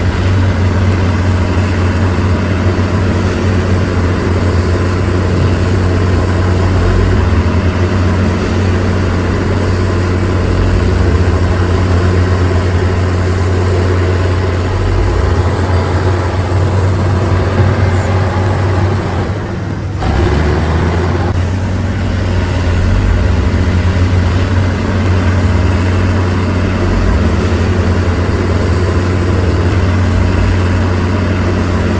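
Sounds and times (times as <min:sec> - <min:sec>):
diesel engine humming: 0:00.0 - 0:31.9.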